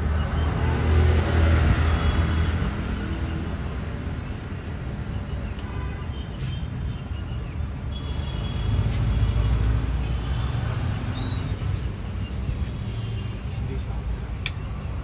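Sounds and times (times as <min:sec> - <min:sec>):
passing vehicles rumbling: 0:00.0 - 0:15.0.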